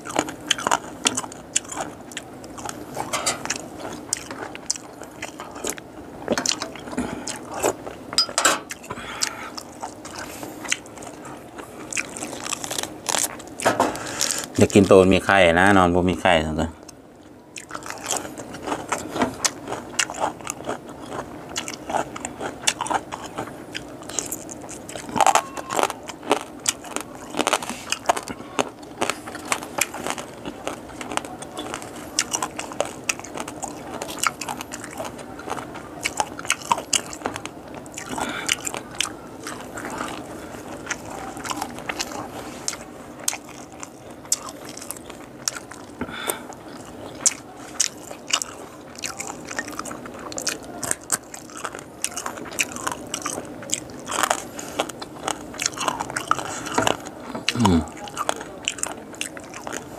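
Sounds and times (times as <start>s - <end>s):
close chewing and crunching: 0.0s - 59.9s.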